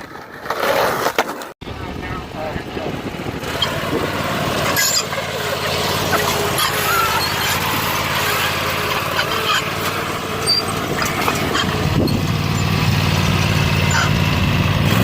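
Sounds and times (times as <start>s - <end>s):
tractor engine running: 1.6s - 15.0s.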